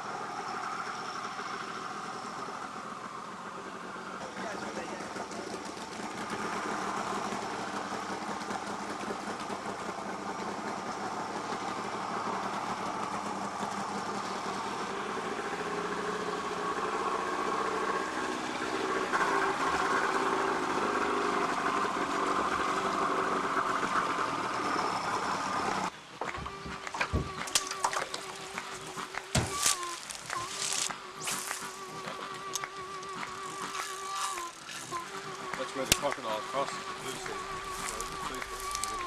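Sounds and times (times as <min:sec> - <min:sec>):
outboard motor running: 0:00.0 - 0:39.0.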